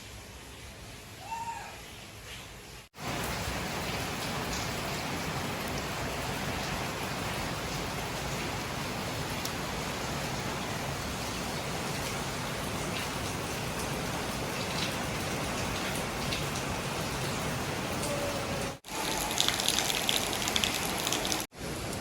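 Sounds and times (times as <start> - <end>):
close sharp raindrops: 0.0 - 22.0
steady rain falling: 0.0 - 22.0.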